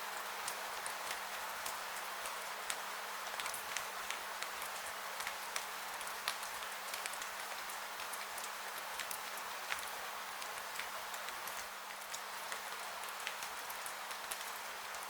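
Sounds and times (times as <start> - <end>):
rainfall hiss: 0.0 - 15.0.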